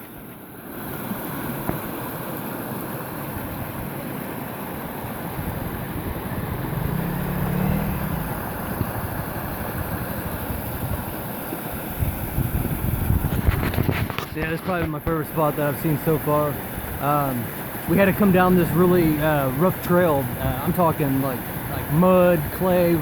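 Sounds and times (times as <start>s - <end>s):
waterfall roaring: 0.7s - 23.0s.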